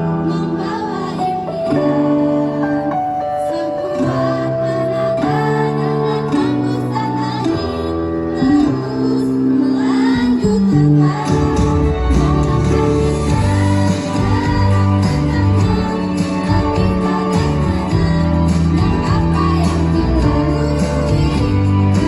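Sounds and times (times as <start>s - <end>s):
musical accompaniment: 0.0s - 22.0s
school choir singing: 0.0s - 22.0s.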